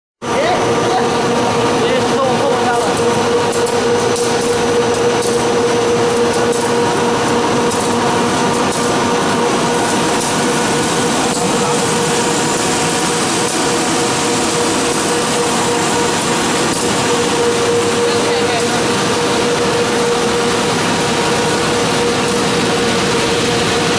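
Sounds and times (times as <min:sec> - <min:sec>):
production line machine noise: 0:00.2 - 0:23.9.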